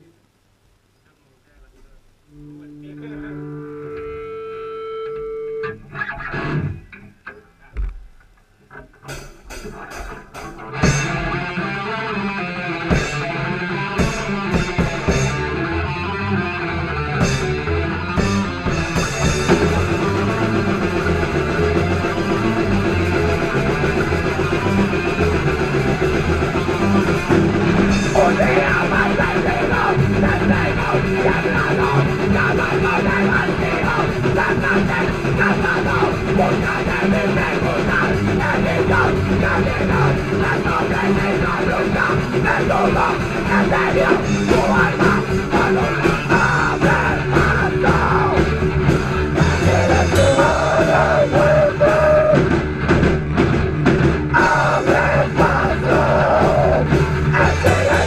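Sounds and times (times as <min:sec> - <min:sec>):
electric guitar: 0:02.3 - 0:58.0
heavy rock band playing: 0:09.0 - 0:58.0.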